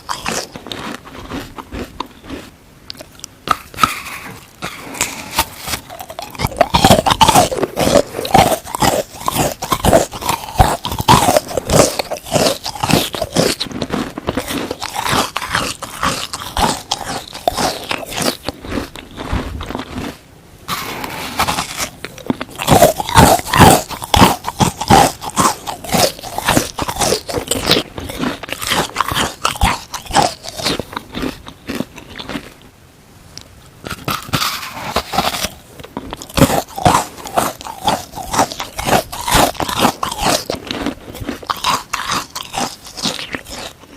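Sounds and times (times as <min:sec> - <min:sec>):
frozen sponge being chewed: 0:00.0 - 0:32.7, 0:33.4 - 0:43.9.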